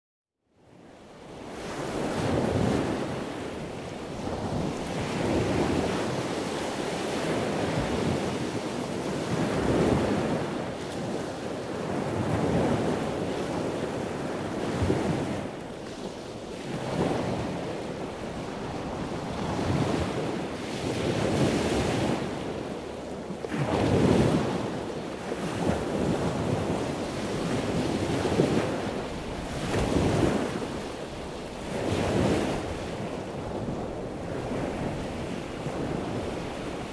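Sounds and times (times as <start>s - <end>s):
wind: 0.4s - 36.9s
waves breaking on beach: 0.7s - 36.9s.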